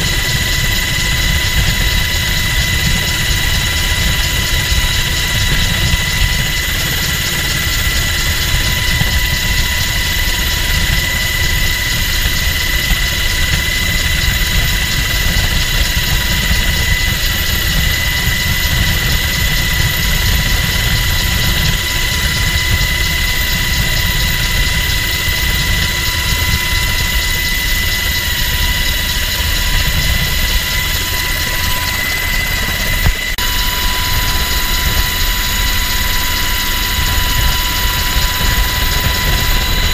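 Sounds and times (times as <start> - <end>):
helicopter engines and rotors droning: 0.0 - 39.9
high-pitched whine: 0.0 - 39.9.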